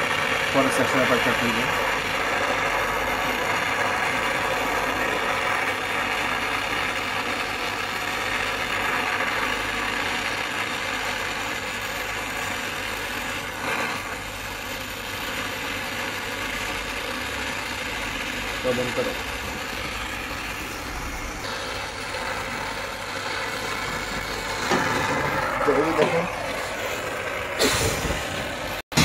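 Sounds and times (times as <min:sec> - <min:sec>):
torch flame hissing: 0:00.0 - 0:29.0.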